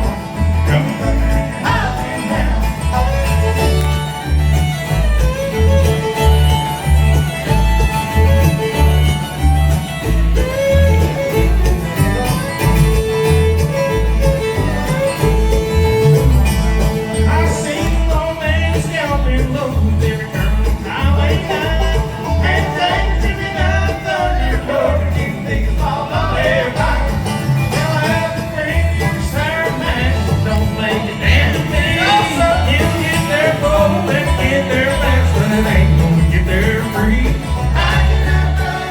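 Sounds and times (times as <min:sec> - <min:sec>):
bass line: 0:00.0 - 0:38.9
fiddle lead: 0:00.0 - 0:38.9
guitar: 0:00.0 - 0:38.9.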